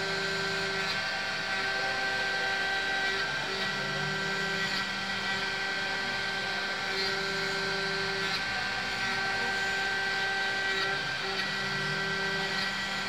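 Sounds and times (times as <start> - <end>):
metal cutting noise: 0.0 - 13.0
milling machine spindle whine: 0.0 - 13.0.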